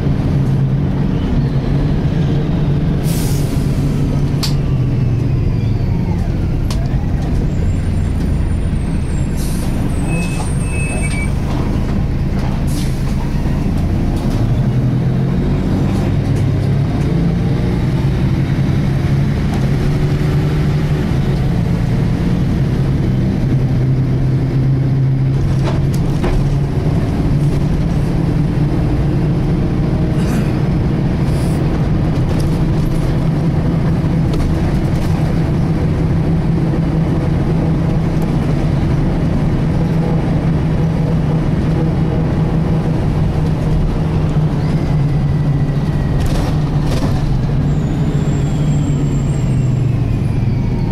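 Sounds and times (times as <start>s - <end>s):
bus engine rumbling: 0.0s - 50.9s.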